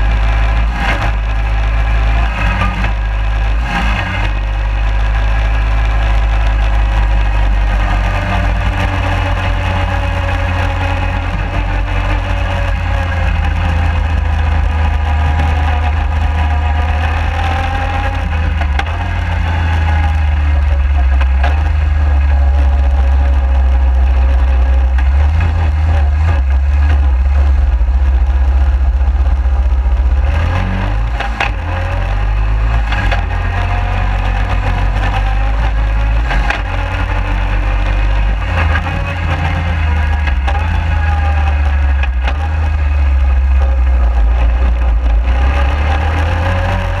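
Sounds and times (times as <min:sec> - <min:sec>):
atv engine: 0:00.0 - 0:47.0.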